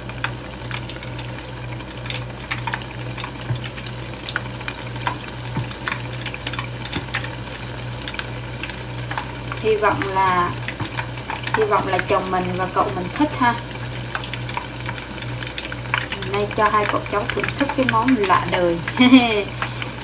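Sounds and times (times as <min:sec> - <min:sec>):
deep-frying sizzle with pops: 0:00.0 - 0:20.0
low steady hum: 0:00.0 - 0:20.0.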